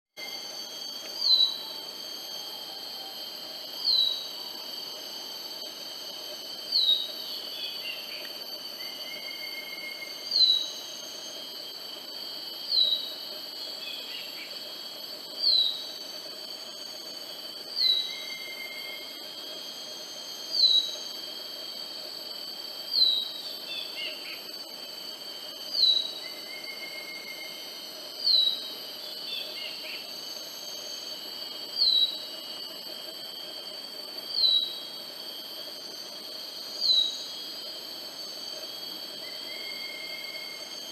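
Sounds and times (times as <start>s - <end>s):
high insect drone: 0.1s - 40.9s.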